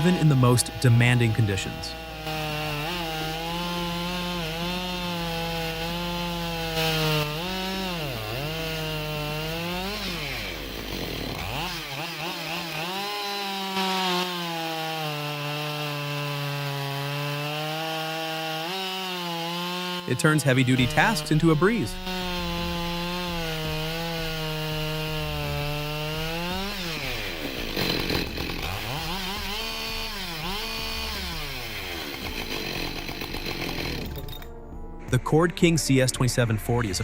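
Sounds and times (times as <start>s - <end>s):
chainsaw cutting wood: 0.0s - 34.7s.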